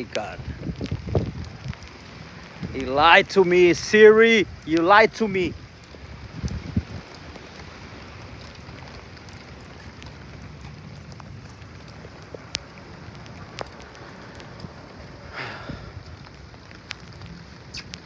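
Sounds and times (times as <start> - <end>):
rain hiss: 0.0 - 18.0.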